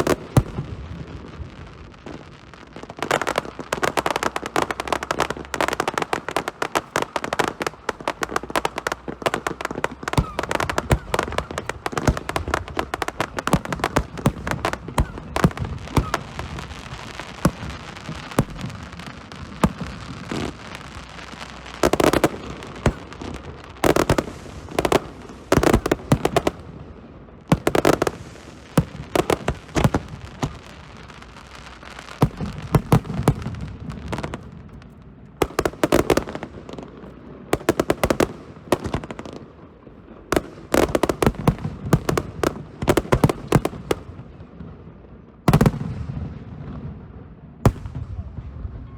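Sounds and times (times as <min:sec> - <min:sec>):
echoing firework bangs: 0:00.0 - 0:48.9
fireworks crackling: 0:00.0 - 0:48.9.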